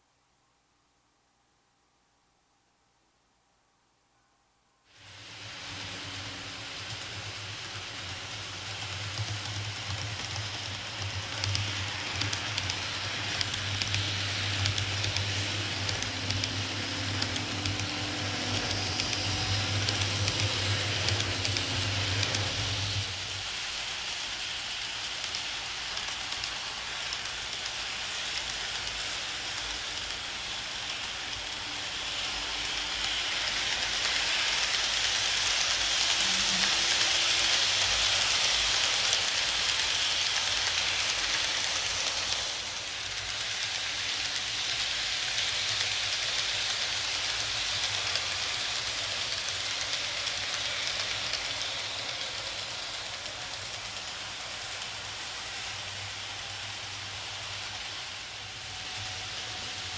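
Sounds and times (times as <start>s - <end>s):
model train wheels rolling on rail: 4.9s - 59.9s.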